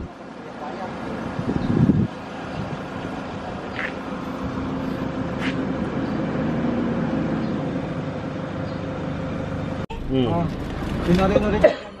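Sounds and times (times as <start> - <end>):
vehicle engine hum and road noise: 0.0 - 12.0.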